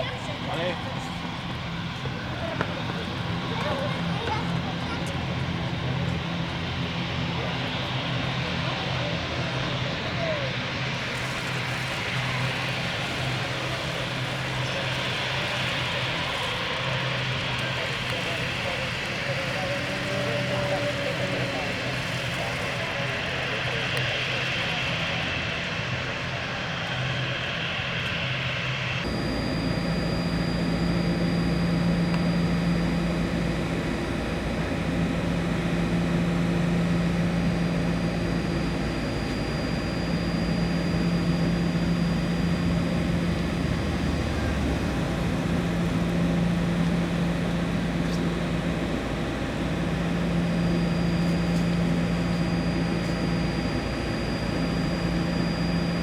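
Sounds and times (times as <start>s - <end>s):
faint high whine: 0.0s - 56.0s
machine hum: 0.0s - 56.0s.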